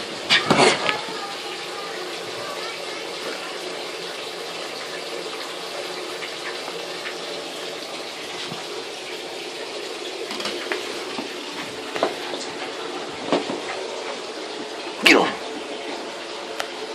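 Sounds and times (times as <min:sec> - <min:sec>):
running water: 0:00.0 - 0:16.9.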